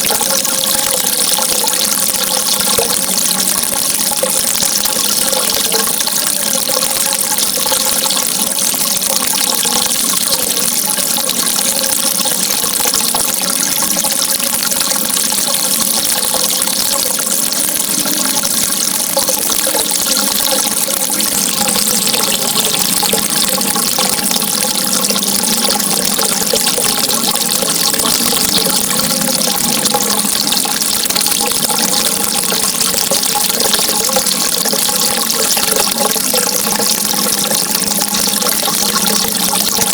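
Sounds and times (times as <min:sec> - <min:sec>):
running water bubbling: 0:00.0 - 0:39.9.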